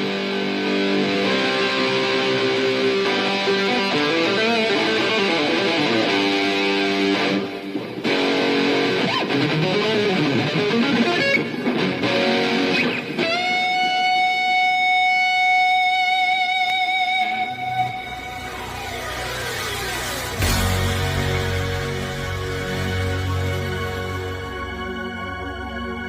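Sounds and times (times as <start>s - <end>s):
electric guitar playing: 0.0s - 26.0s.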